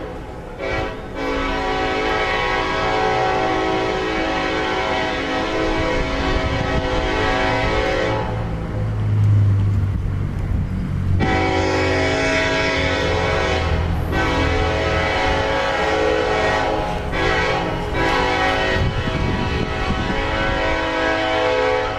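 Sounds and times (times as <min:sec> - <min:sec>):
locomotive air horn blasts: 0:00.0 - 0:08.6, 0:11.2 - 0:21.9
diesel engine rumbling: 0:00.0 - 0:21.9.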